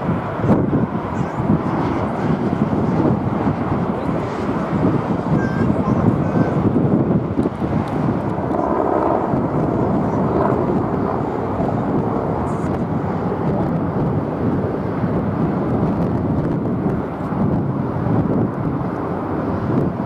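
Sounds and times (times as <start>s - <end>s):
jet engine rushing: 0.0s - 20.0s.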